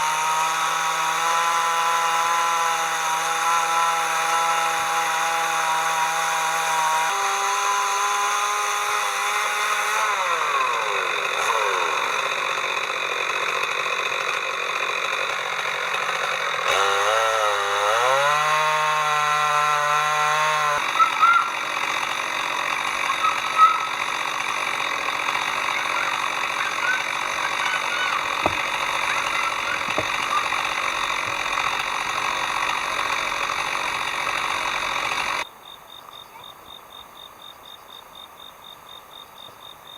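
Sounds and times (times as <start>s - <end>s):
chainsaw cutting a log: 0.0s - 35.5s.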